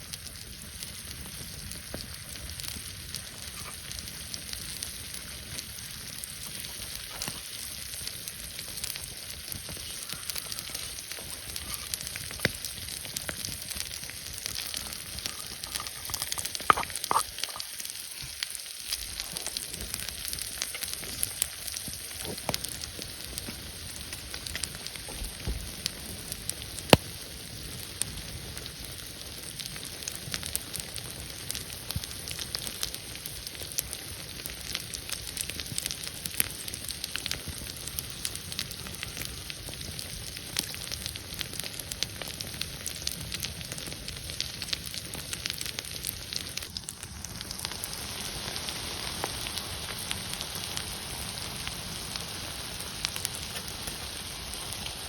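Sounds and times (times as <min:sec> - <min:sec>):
crackles and pops: 0:00.0 - 0:55.0
food sizzling in frying pan: 0:00.0 - 0:55.0.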